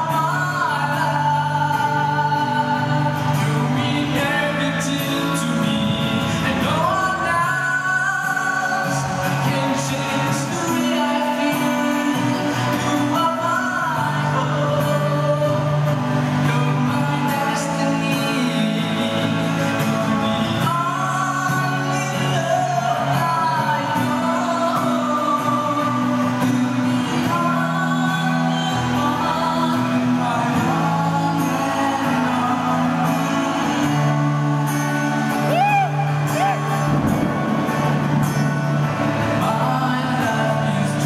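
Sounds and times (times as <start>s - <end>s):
backing track: 0.0s - 41.0s
man singing a pop ballad: 0.0s - 41.0s.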